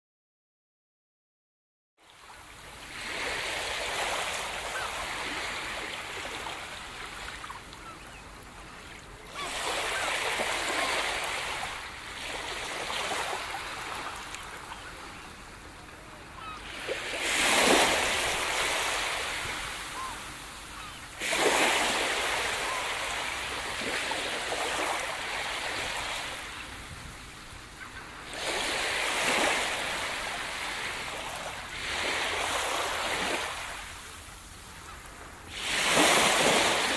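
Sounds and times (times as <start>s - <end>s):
waves washing onto a beach: 2.2s - 36.9s.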